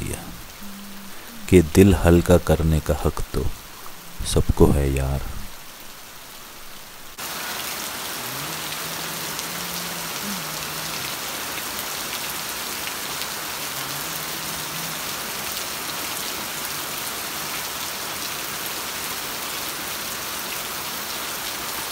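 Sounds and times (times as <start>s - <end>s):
heavy rain on grass and roof: 0.0s - 21.9s.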